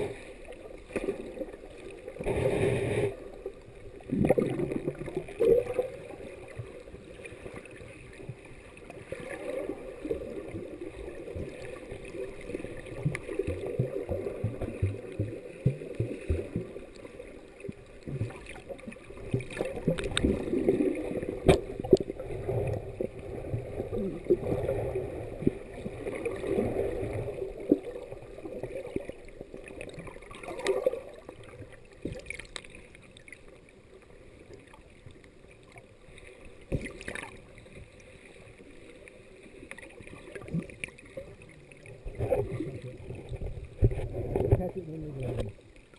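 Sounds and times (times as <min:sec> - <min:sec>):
muffled underwater sloshing: 0:00.0 - 0:45.9.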